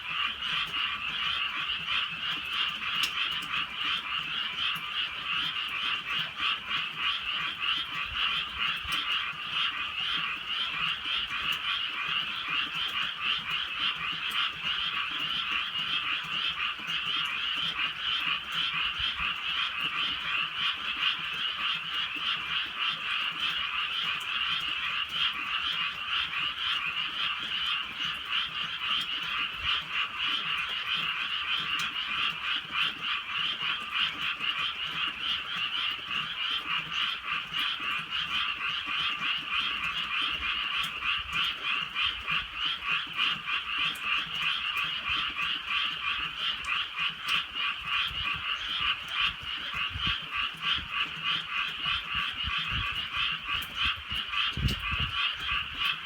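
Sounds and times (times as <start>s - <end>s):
chorus of frogs calling: 0.0s - 56.0s.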